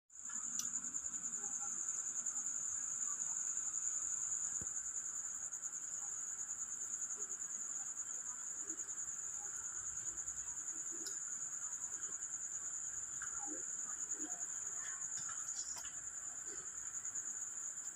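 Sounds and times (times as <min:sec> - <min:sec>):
insects trilling high-pitched: 0:00.2 - 0:17.9
soft lower insect chorus: 0:00.2 - 0:17.9.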